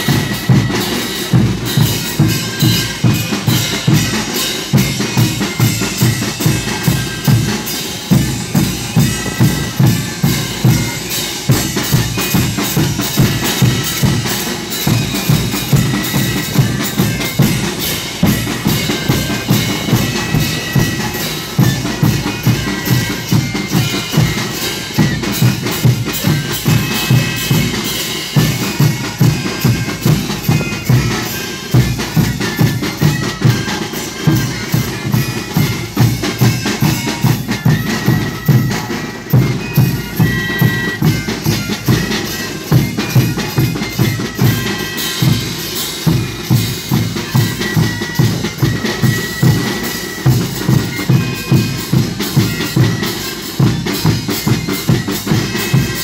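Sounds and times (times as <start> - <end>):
crashing hand cymbals: 0.0 - 56.0
snare drum: 0.0 - 56.0
wind instruments playing melody: 0.0 - 56.0.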